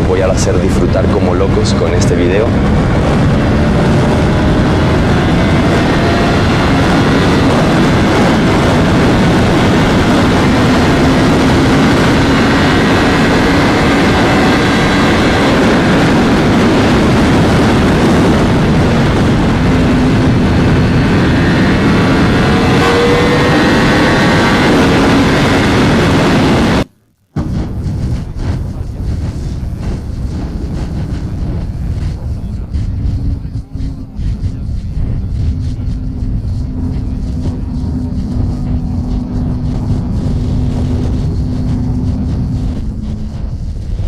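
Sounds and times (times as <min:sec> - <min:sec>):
motorcycle engine while riding: 0:00.0 - 0:44.0
wind rush: 0:00.0 - 0:44.0.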